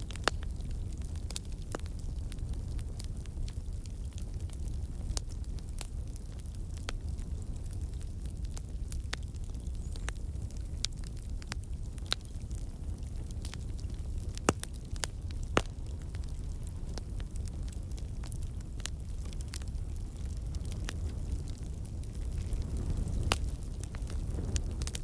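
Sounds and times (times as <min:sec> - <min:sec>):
campfire flame rumble: 0:00.0 - 0:25.0
logs crackling and popping: 0:00.0 - 0:25.0.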